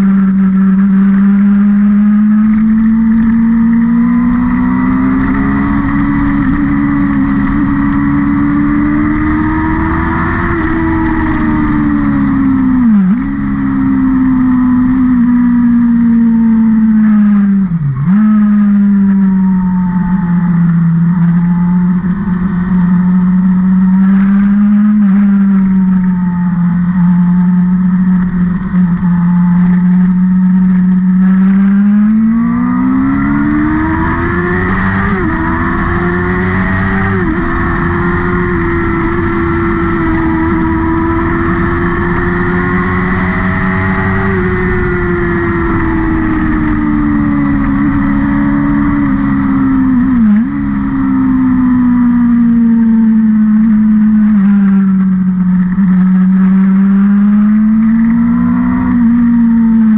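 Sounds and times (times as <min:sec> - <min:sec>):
vehicle engine revving hard: 0:00.0 - 0:26.2, 0:31.1 - 0:54.8.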